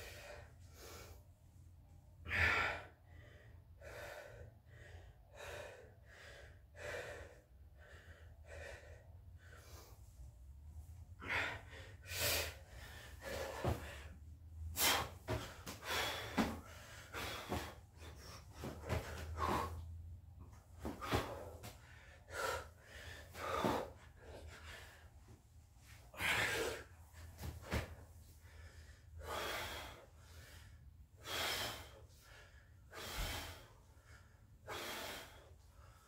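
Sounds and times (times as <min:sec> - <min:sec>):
man breathing hard: 0:00.0 - 0:36.0.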